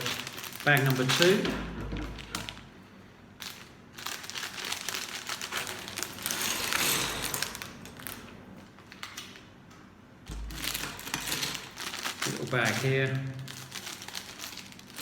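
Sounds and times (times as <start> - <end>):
plastic bag crinkling: 0.0 - 1.4, 2.0 - 2.7, 3.4 - 9.5, 10.3 - 15.0.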